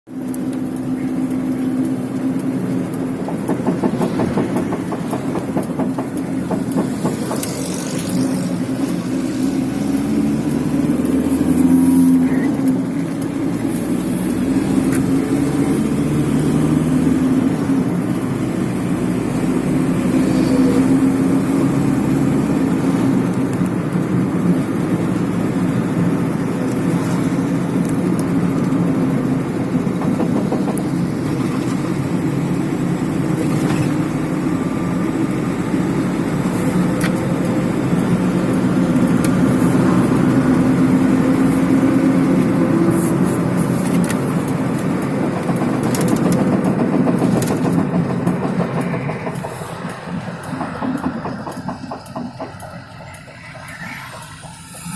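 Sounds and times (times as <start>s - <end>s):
van engine and road noise: 0.0s - 54.9s.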